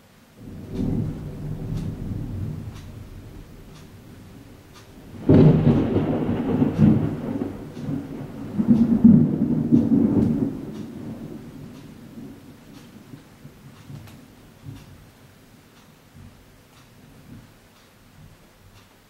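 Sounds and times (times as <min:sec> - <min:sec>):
thunder clap and rumble: 0:00.4 - 0:17.5.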